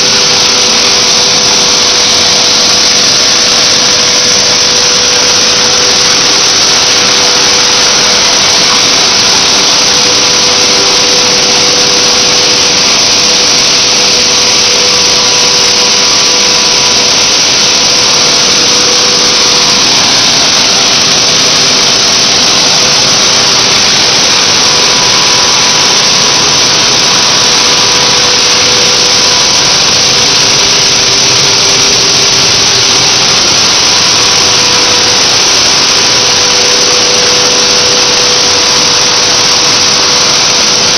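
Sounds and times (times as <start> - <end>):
machinery whooshing whir: 0.0 - 40.9.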